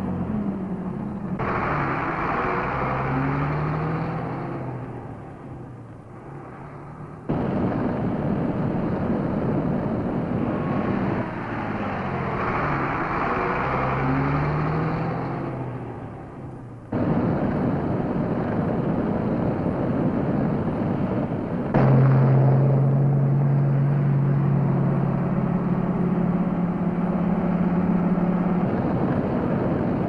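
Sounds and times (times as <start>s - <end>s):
truck engine accelerating: 0.0s - 30.0s
tyre and road noise: 0.0s - 30.0s.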